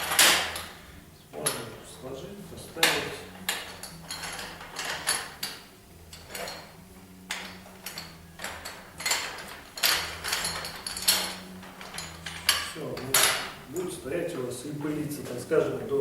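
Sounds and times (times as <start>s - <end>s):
metal stand parts clanking: 0.0s - 16.0s.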